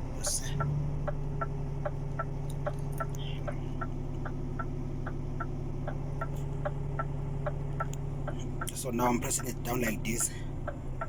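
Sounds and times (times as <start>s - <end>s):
diesel engine idling: 0.0s - 11.0s
regular light ticking: 0.2s - 11.0s.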